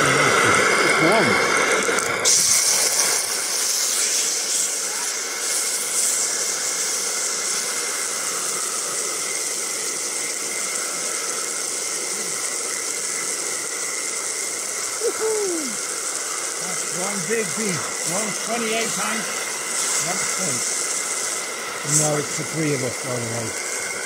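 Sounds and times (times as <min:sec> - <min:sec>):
steak sizzling in a pan: 0:00.0 - 0:24.0.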